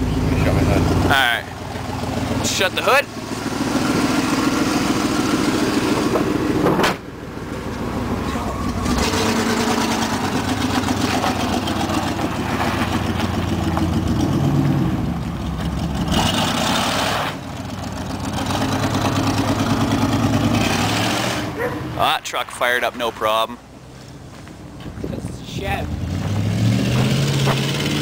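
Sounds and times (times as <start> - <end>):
pickup truck engine revving: 0.0 - 7.0, 7.8 - 22.0, 25.9 - 28.0.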